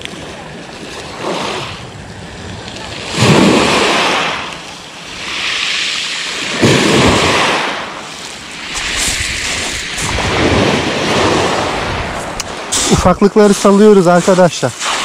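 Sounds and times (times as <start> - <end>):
waves washing over pebbles: 0.0 - 15.0.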